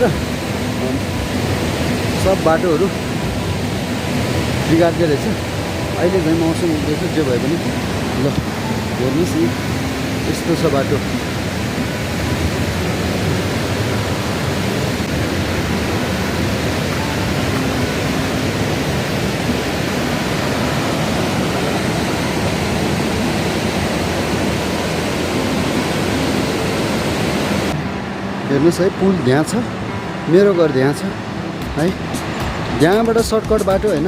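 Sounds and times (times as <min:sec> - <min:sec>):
fast-flowing water rushing: 0:00.0 - 0:34.0.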